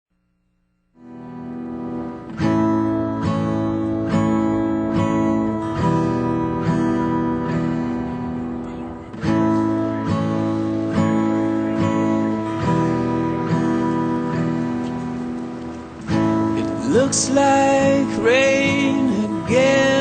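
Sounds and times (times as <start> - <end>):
strummed acoustic guitar: 1.0 - 20.0.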